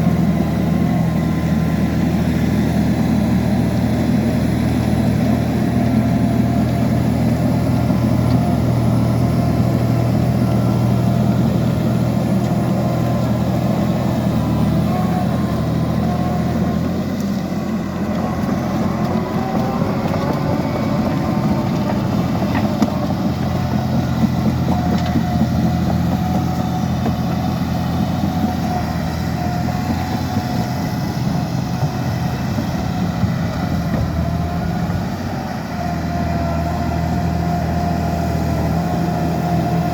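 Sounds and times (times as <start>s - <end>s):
dozer diesel engine droning: 0.0s - 39.9s.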